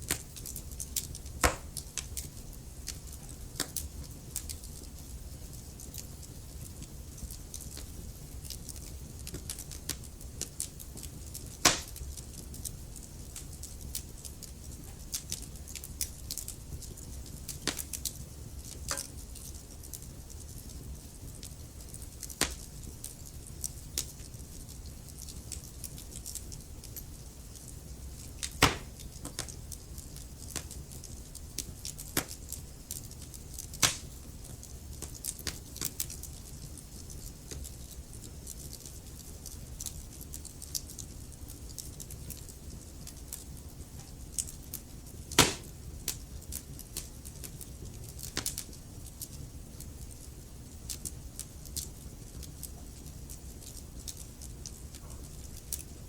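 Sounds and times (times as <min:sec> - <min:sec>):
rumble of flames: 0:00.0 - 0:56.0
wood fire pops and snaps: 0:00.0 - 0:56.0.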